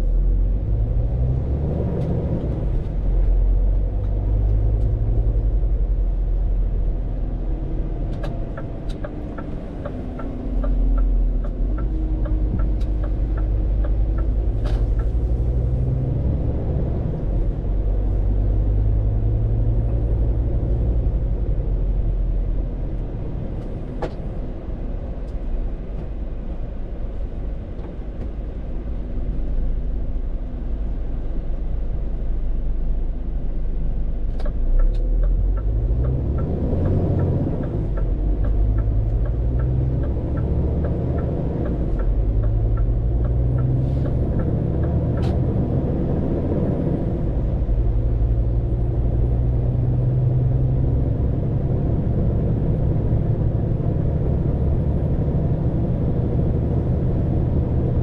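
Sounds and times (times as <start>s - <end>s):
truck diesel engine shifting gears: 0.0s - 58.0s.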